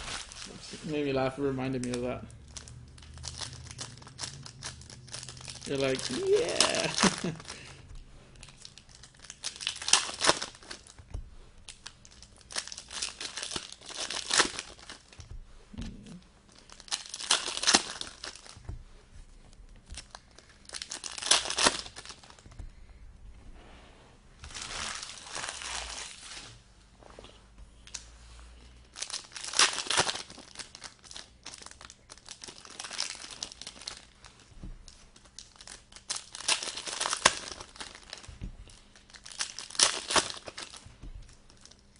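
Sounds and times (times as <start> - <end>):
foil wrappers tearing and crinkling: 0.0 - 18.7, 19.7 - 22.6, 24.4 - 26.6, 28.9 - 41.9.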